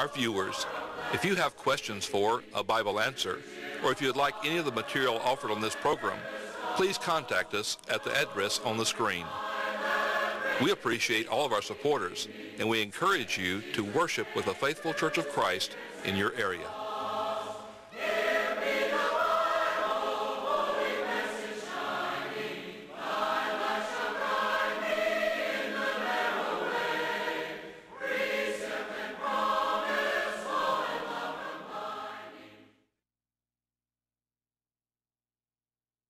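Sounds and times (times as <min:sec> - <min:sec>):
choir singing: 0:00.0 - 0:32.8.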